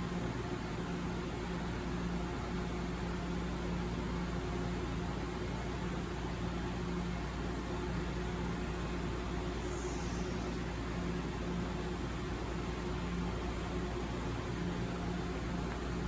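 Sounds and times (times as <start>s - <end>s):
mechanical hum and rumble: 0.0s - 16.0s.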